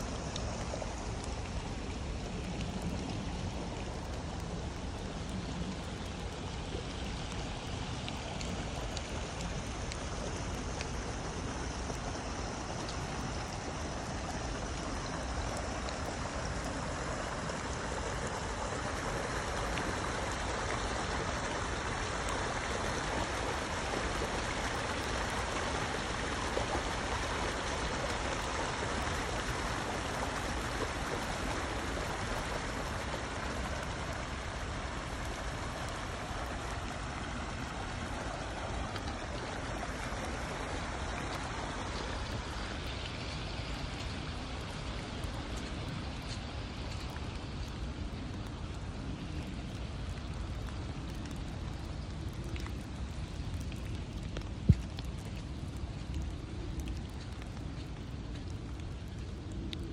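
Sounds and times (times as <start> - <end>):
stream rushing and splashing: 0.0 - 59.9.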